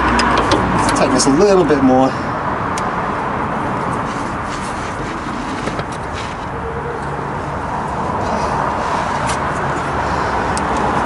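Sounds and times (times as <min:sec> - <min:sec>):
outdoor background hum: 0:00.0 - 0:11.0.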